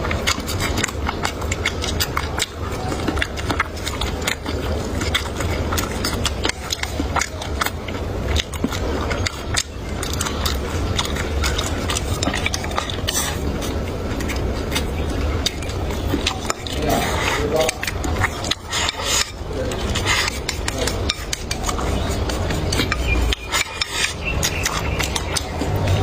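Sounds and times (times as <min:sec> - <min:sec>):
steady low hum: 0:00.0 - 0:26.0
wet chewing and crunching: 0:00.0 - 0:26.0.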